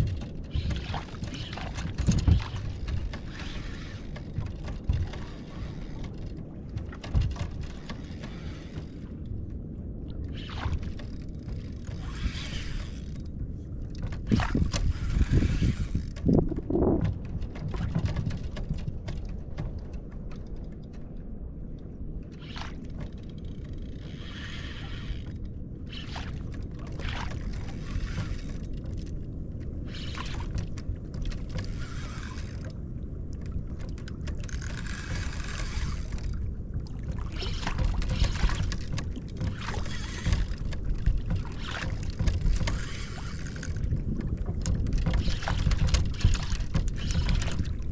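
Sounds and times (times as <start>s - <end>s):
water swishing against kayak: 0.0s - 47.9s
wind rumble: 0.0s - 47.9s.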